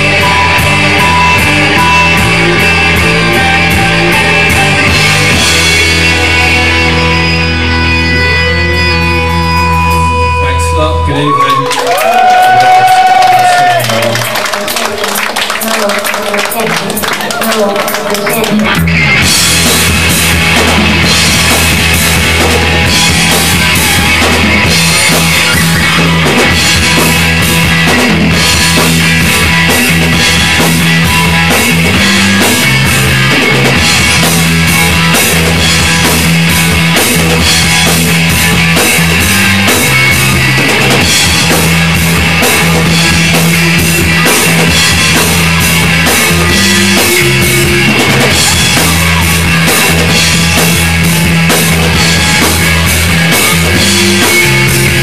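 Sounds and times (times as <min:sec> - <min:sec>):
drum kit steady beat: 0:00.0 - 0:08.3, 0:12.4 - 0:55.0
electric bass low notes: 0:00.0 - 0:11.4, 0:18.3 - 0:55.0
electric guitar: 0:00.0 - 0:55.0.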